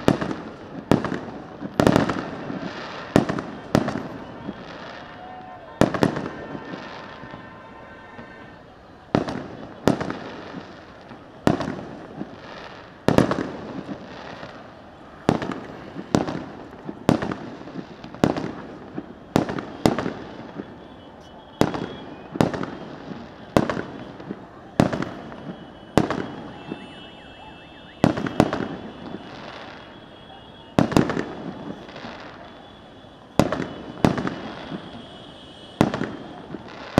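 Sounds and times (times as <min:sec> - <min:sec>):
fireworks bursting with echo: 0:00.0 - 0:36.9.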